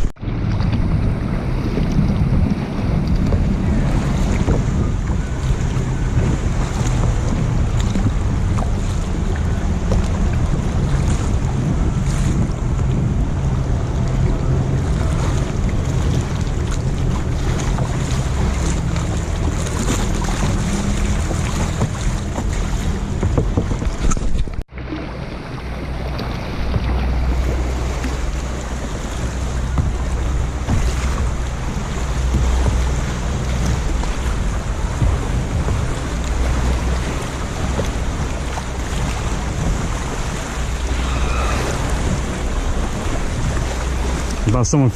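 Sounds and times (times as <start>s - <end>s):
lake waves lapping: 0.0s - 44.9s
wind buffeting microphone: 0.0s - 44.9s.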